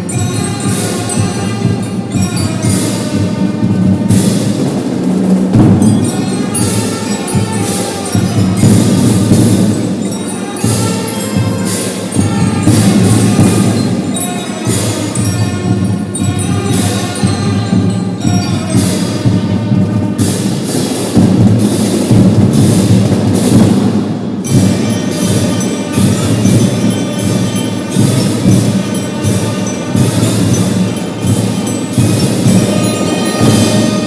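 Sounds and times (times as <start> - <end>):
mallet bells melody: 0.0 - 34.0
marching drums beating: 0.0 - 34.0.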